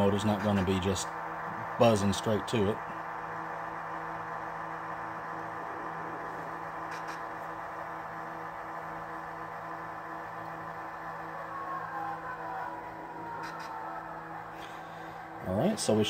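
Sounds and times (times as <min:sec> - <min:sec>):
model train diesel engine hum: 0:00.0 - 0:16.0.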